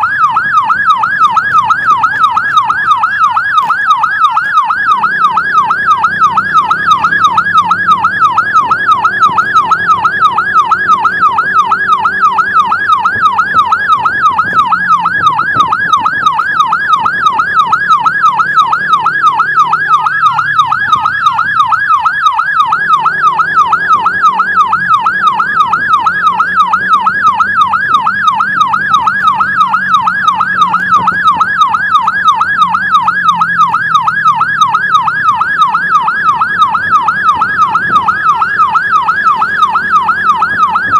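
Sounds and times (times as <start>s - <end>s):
emergency siren yelping: 0.0s - 40.9s.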